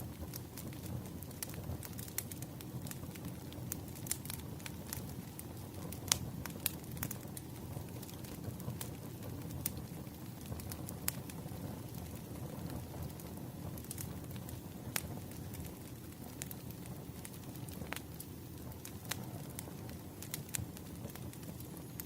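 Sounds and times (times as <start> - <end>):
low fire rumble: 0.0 - 22.0
wood fire snapping and popping: 0.0 - 22.0.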